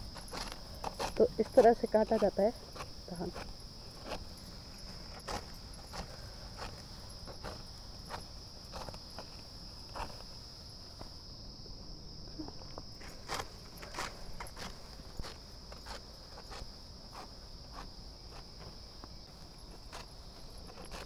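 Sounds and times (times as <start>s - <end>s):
sickle cutting dry stalks: 0.0s - 11.2s, 13.0s - 21.0s
stalks rustling: 0.0s - 11.2s, 12.4s - 21.0s
high insect chirring: 0.0s - 21.0s.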